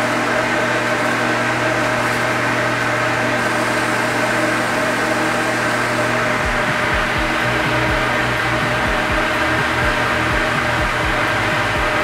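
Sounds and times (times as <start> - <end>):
constant hum: 0.0 - 12.0
exhaust fan rushing air: 0.0 - 12.0.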